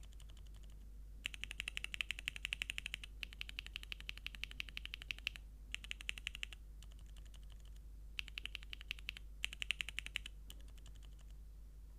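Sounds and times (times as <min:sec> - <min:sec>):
mechanical keyboard typing: 0:00.0 - 0:11.4.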